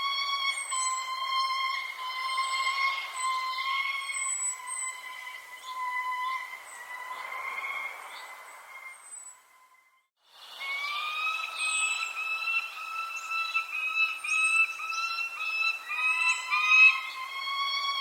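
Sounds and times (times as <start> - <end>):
birds calling repeated even notes: 0.0 - 18.0
high falling bird chirps: 0.0 - 18.0.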